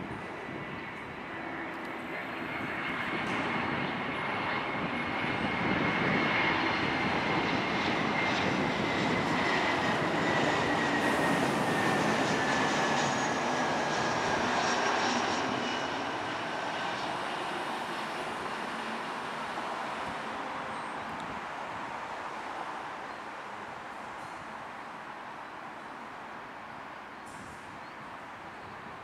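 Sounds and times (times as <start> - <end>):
jet engines rushing with high whine: 0.0 - 29.0.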